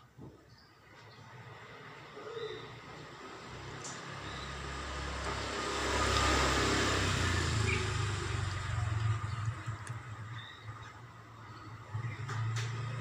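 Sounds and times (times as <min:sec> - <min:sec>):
vehicle passing by: 0:00.9 - 0:13.0.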